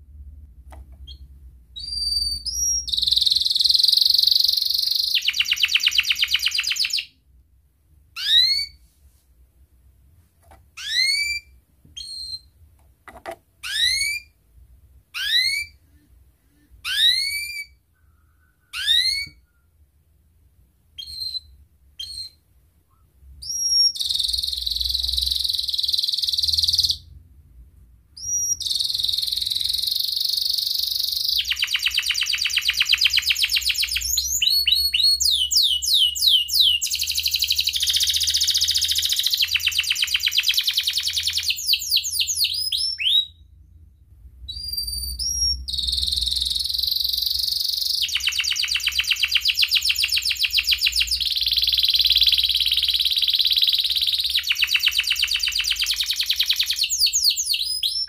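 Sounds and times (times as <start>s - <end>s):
canary singing: 1.0s - 7.2s, 8.1s - 8.8s, 10.7s - 12.7s, 13.6s - 14.4s, 15.1s - 16.1s, 16.7s - 17.8s, 18.6s - 19.6s, 20.9s - 22.5s, 23.4s - 27.2s, 28.2s - 43.8s, 44.5s - 58.0s.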